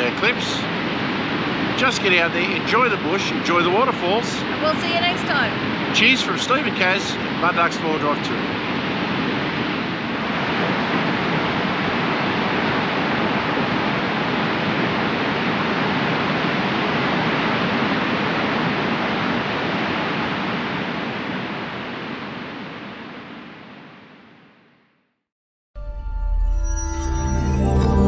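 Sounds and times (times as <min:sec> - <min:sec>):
waterfall roaring: 0:00.0 - 0:23.2.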